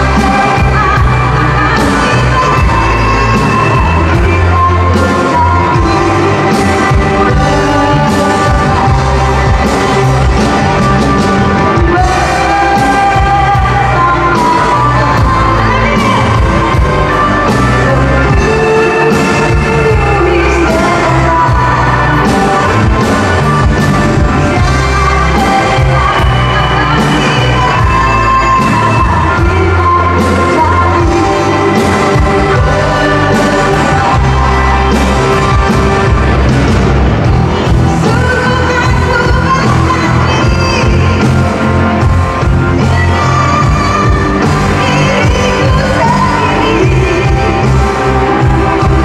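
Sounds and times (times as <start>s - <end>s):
woman singing into microphone: 0.0s - 36.4s, 37.2s - 49.0s
band with electric guitars and drums: 0.0s - 49.0s.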